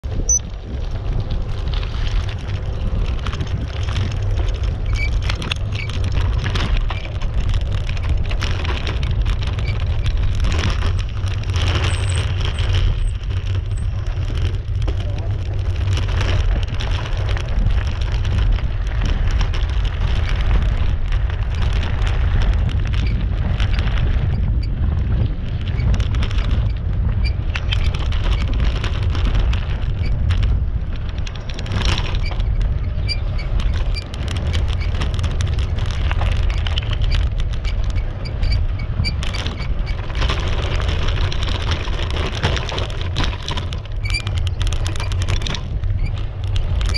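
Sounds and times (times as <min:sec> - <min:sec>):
bicycle tyres crunching on gravel: 0:00.0 - 0:46.9
wind buffeting microphone: 0:00.0 - 0:46.9.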